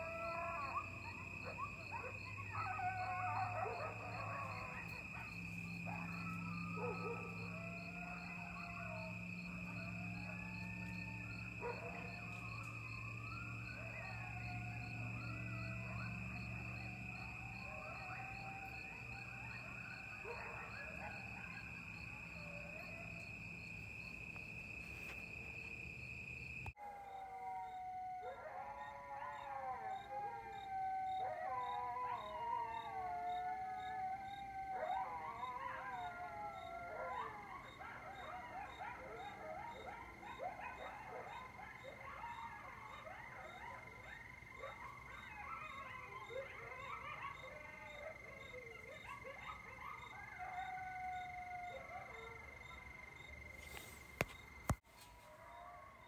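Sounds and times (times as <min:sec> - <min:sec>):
coyotes yipping and howling: 0:00.0 - 0:56.0
crickets chirping: 0:00.0 - 0:56.0.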